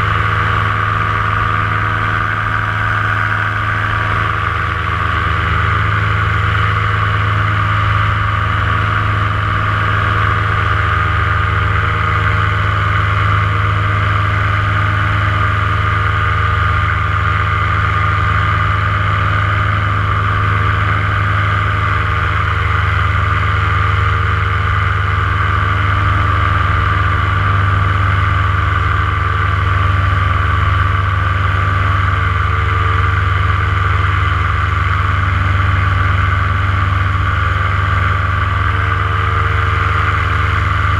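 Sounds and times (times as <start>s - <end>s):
paramotor engine and propeller: 0.0s - 40.9s.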